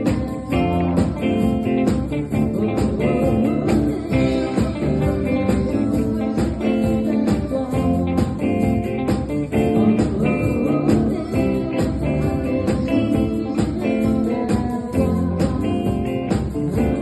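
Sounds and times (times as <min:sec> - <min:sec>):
band playing music: 0:00.0 - 0:17.0.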